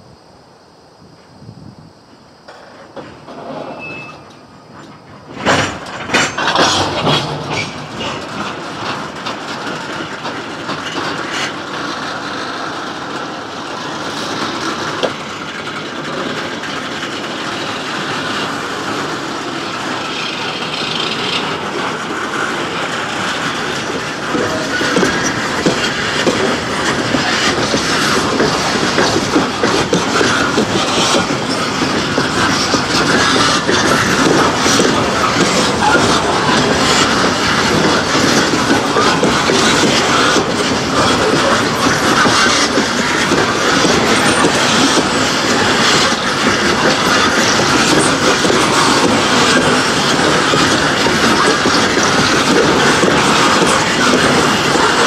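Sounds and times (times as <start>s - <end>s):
train wheels clicking over rail joints: 2.5s - 55.0s.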